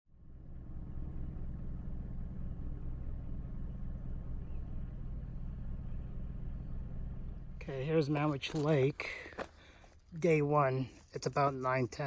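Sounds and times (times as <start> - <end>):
steady low rumble: 0.2 - 11.7.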